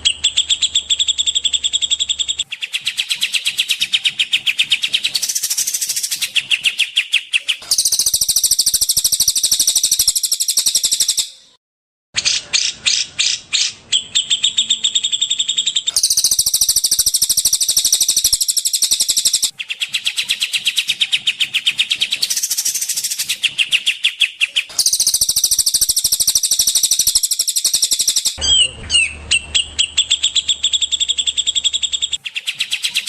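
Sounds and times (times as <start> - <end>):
songbird chirping trills: 0.0 - 11.6, 12.2 - 33.0.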